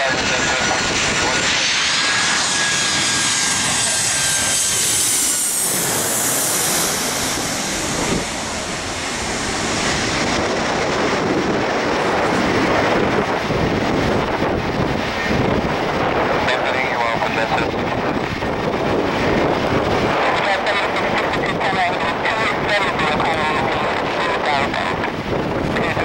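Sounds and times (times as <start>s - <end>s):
jet engine whine: 0.0s - 26.0s
jet roar: 0.0s - 26.0s.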